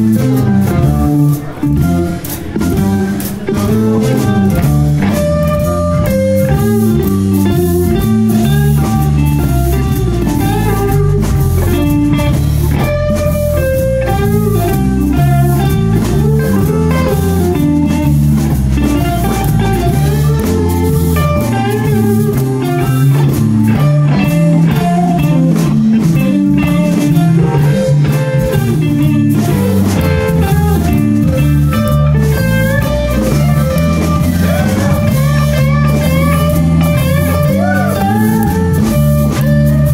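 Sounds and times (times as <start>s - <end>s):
electric guitar lines: 0.0s - 39.9s
live blues band playing: 0.0s - 39.9s.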